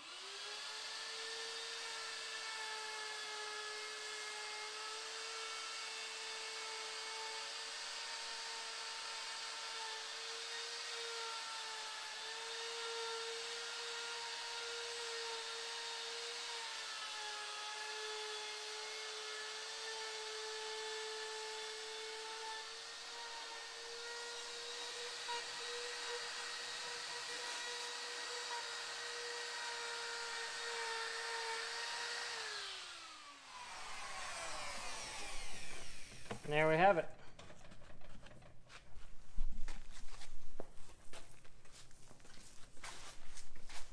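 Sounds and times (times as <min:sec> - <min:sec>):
router whining: 0:00.0 - 0:38.4.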